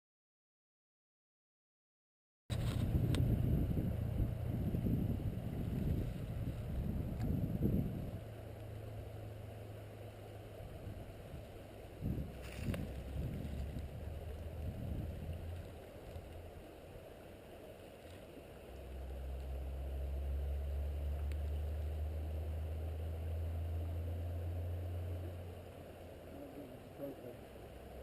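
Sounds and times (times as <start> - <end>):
low rumble: 2.5 - 28.0
stream water running: 2.5 - 28.0.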